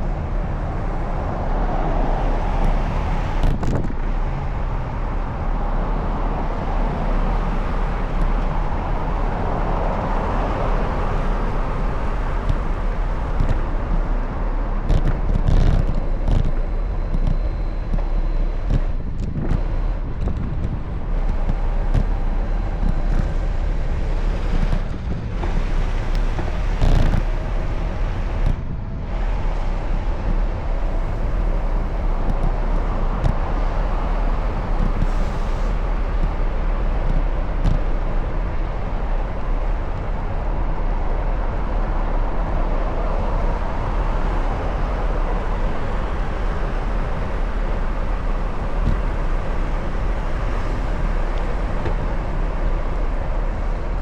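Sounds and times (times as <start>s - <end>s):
cars passing: 0.0s - 54.0s
rushing road noise: 0.0s - 54.0s
wind on microphone: 0.0s - 54.0s.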